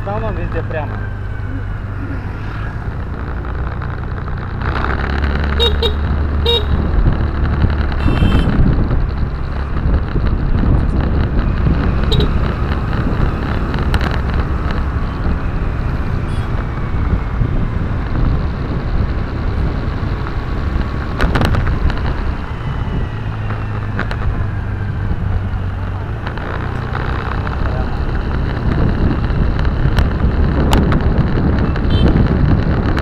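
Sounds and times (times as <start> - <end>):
car engine and tyre rumble: 0.0 - 33.0
wind on microphone: 1.4 - 33.0.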